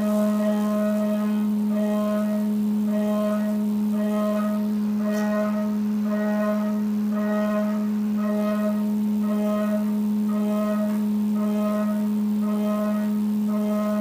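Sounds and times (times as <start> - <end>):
mill spindle cutting aluminum: 0.0 - 14.0.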